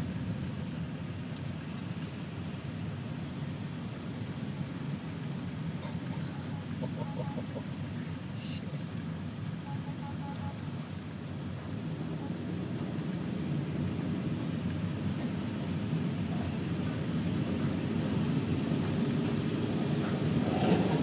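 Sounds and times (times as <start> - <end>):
tyres rumbling on wet road: 0.0 - 21.0.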